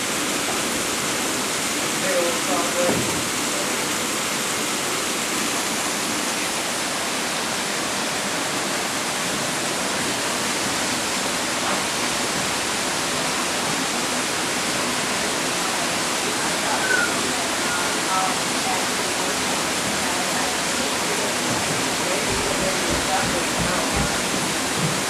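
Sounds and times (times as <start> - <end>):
rushing falling water: 0.0 - 25.0.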